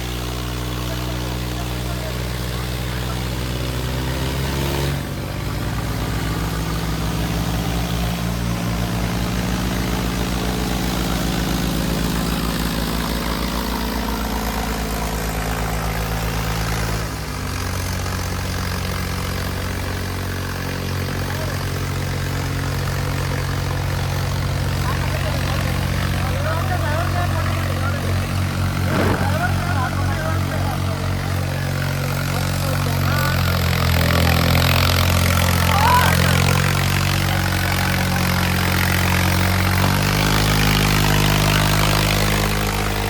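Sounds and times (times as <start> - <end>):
tractor diesel engines running hard: 0.0 - 43.0.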